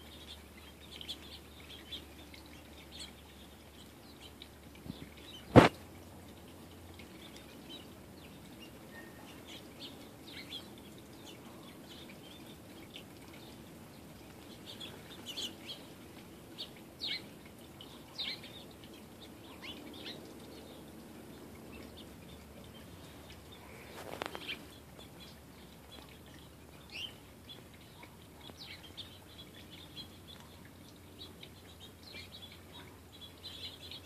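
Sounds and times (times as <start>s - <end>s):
small songbirds chirping: 0.0s - 34.0s.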